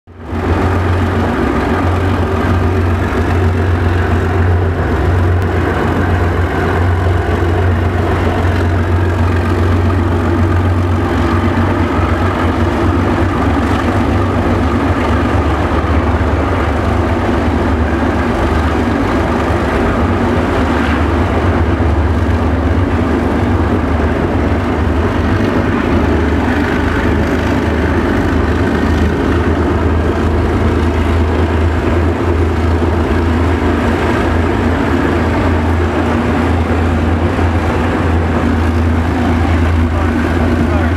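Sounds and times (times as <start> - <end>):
locomotive engine droning: 0.1 - 40.9
train rolling noise: 0.1 - 40.9.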